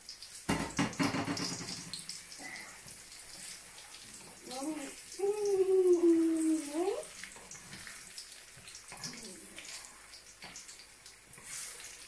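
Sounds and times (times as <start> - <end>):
bananas sizzling in a wok: 0.0 - 12.0.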